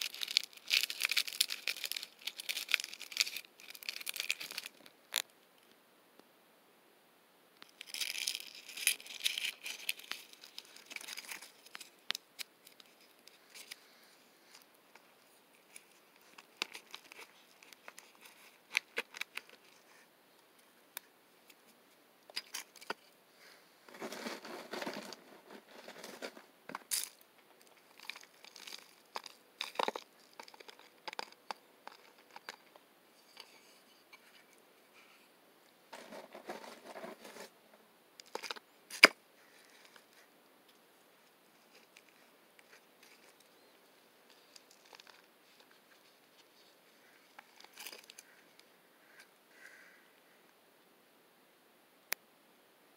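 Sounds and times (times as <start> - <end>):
hands rustling in potting soil: 0.0 - 5.2, 7.6 - 35.3, 35.9 - 37.6, 38.2 - 49.8.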